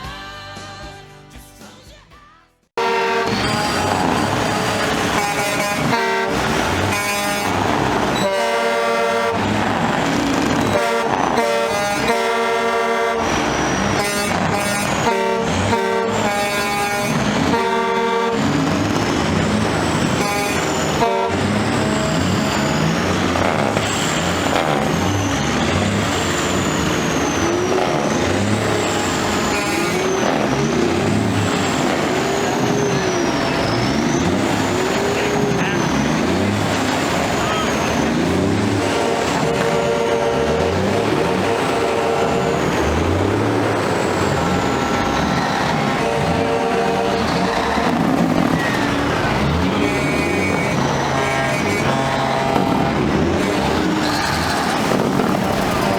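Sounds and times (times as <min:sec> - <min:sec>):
truck air horns blasting: 0:02.8 - 0:55.9
truck engines rumbling: 0:02.8 - 0:55.9.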